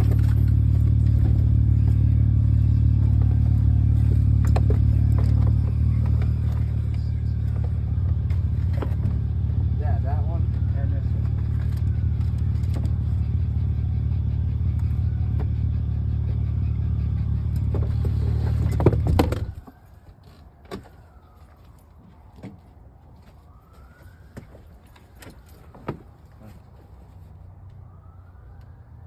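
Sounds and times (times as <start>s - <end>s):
distant siren wailing: 0.0s - 29.0s
vehicle engine rumbling: 0.0s - 29.0s.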